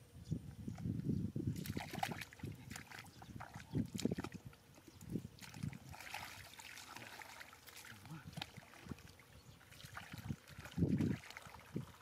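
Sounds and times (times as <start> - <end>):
mud sloshing and squelching: 1.6 - 12.0.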